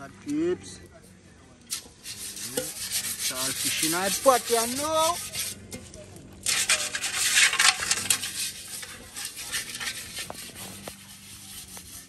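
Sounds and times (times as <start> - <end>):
metal pot being scoured: 1.7 - 12.0.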